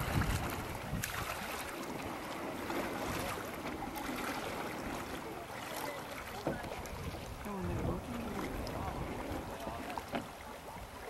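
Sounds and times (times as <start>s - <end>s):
faint splashes: 0.0s - 11.0s
water noise: 0.0s - 11.0s
wind: 0.0s - 11.0s.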